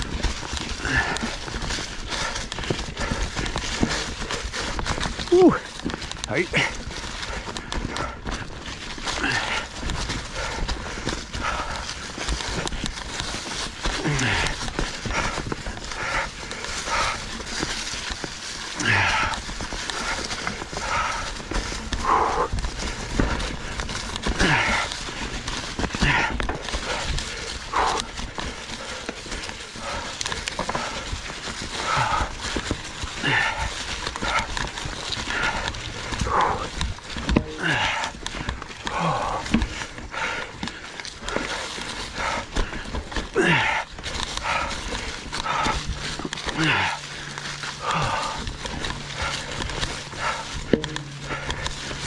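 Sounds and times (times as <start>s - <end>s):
mountain bike rattling over rocks: 0.0s - 52.0s
rider breathing hard: 0.0s - 52.0s.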